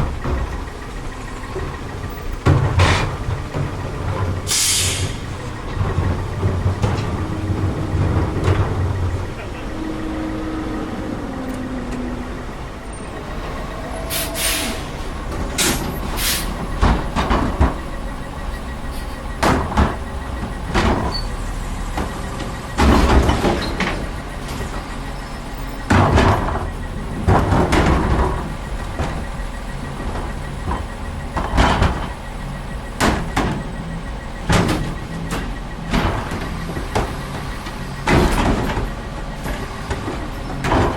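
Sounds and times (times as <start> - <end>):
garbage truck idling: 0.0 - 40.9
loud bangs and clanks: 0.0 - 40.9.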